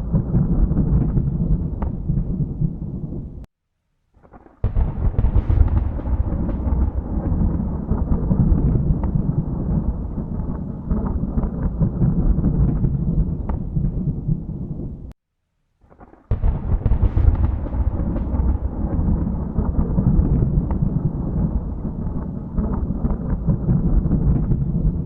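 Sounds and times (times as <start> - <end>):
rolling thunder with crackles: 0.0 - 3.5, 4.2 - 15.1, 16.0 - 25.0.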